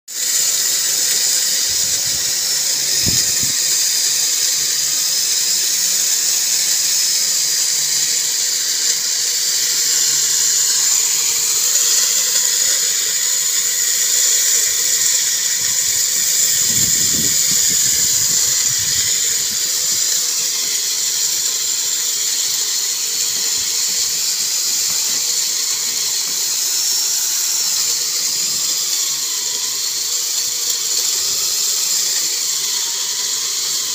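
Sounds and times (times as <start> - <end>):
core drill motor whining: 0.1 - 33.9.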